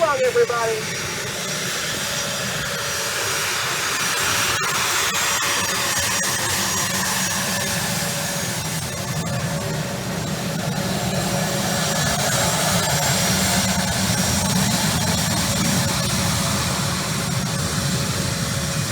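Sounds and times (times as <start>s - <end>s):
jet engines running with whine: 0.0s - 18.9s.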